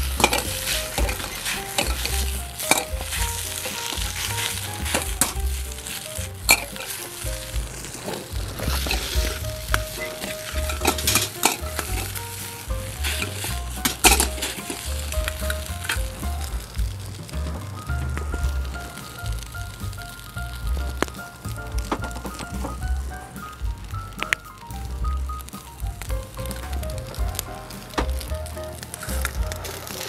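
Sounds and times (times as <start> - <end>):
rice sizzling in a wok: 0.0 - 30.0.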